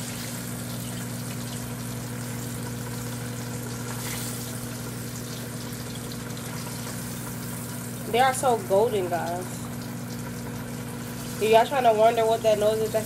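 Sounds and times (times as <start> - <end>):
chicken sizzling in hot oil: 0.0 - 13.0
microwave oven humming: 0.0 - 13.0.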